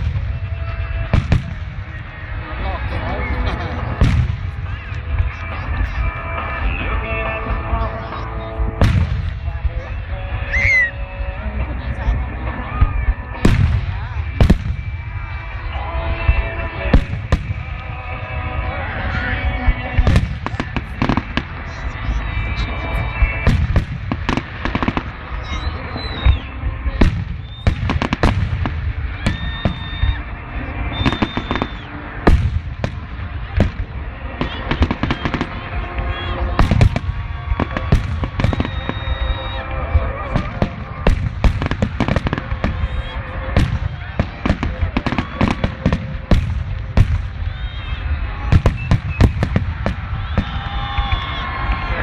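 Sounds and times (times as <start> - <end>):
deep rumble: 0.0 - 52.0
fireworks bangs and crackling: 0.0 - 52.0
fireworks whistling: 0.0 - 52.0.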